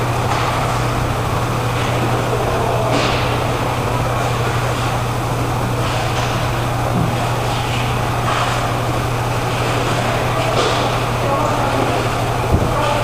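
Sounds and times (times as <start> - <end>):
constant low hum: 0.0 - 13.0
roller hockey rink rumble: 0.0 - 13.0.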